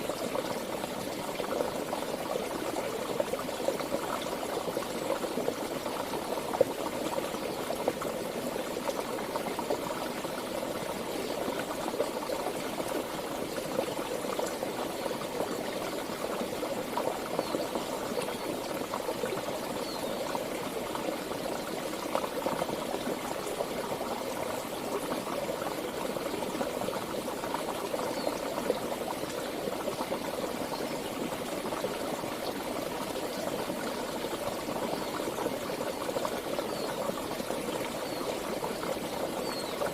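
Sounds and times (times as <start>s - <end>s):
stream water flowing and bubbling: 0.0s - 39.9s.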